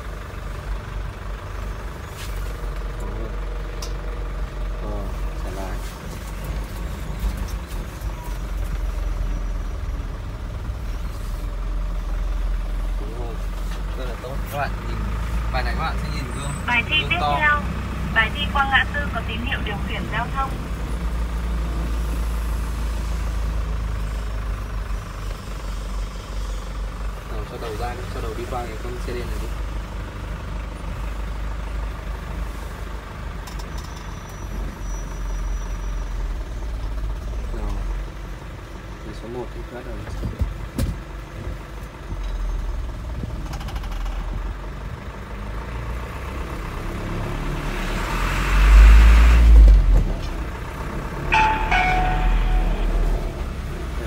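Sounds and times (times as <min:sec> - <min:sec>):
truck engine rumble: 0:00.0 - 0:54.0.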